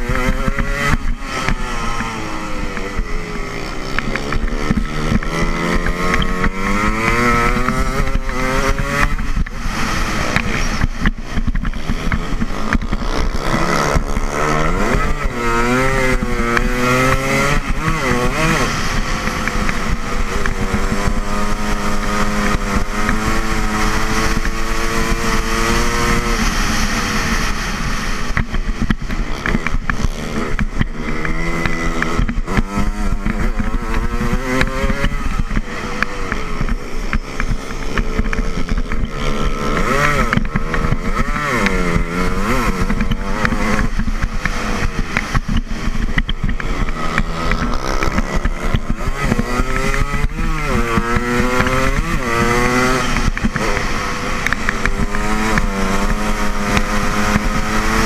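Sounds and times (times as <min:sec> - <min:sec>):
dirt bike engine racing: 0:00.0 - 0:58.0
wind rushing over microphone: 0:00.0 - 0:58.0.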